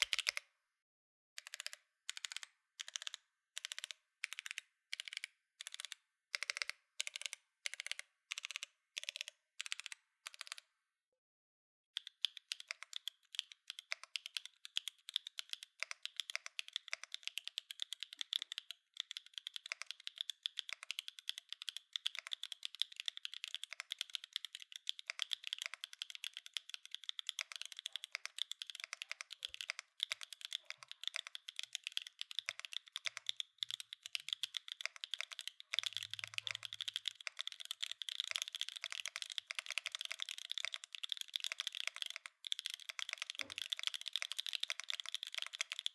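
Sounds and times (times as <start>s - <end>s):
fast typing on mechanical keyboard: 0.0s - 0.4s, 1.4s - 10.6s, 12.0s - 45.9s.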